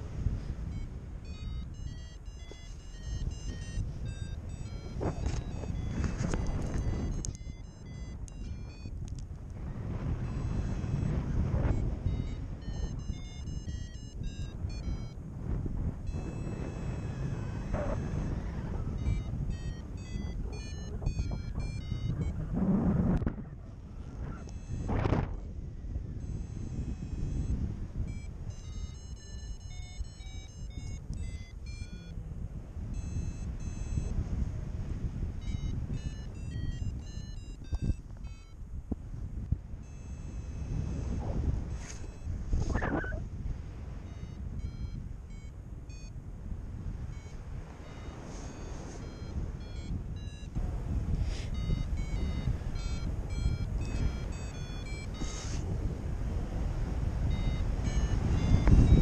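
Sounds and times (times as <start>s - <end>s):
wind rumble on microphone: 0.0s - 59.0s
variometer beeping: 0.5s - 23.3s, 24.3s - 25.6s, 26.2s - 32.3s, 32.9s - 34.4s, 35.4s - 38.6s, 39.8s - 43.2s, 44.0s - 59.0s.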